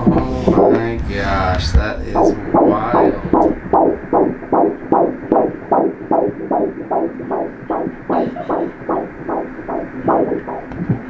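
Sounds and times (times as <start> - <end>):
fetal heartbeat doppler pulse: 0.0 - 11.0.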